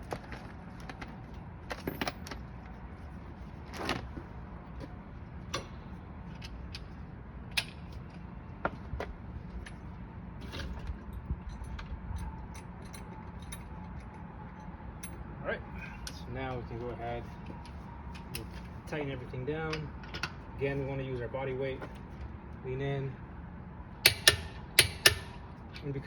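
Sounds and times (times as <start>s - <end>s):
low steady background noise: 0.0s - 26.0s.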